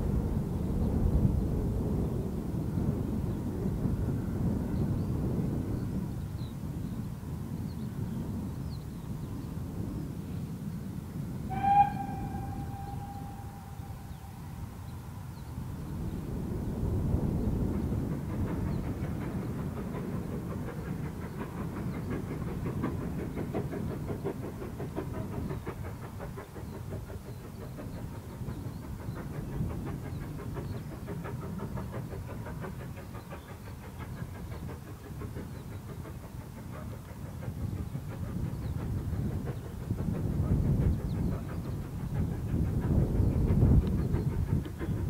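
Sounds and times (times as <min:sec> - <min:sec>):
steam locomotive exhaust beats: 0:00.0 - 0:45.0.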